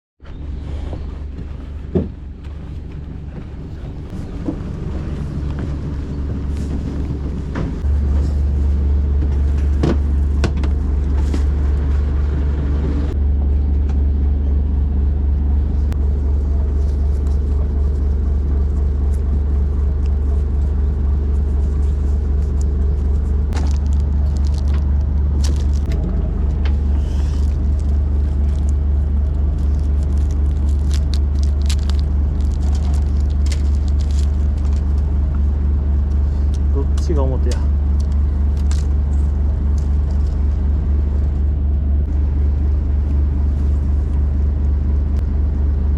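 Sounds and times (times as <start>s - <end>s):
boat engine rumbling: 0.2s - 45.9s.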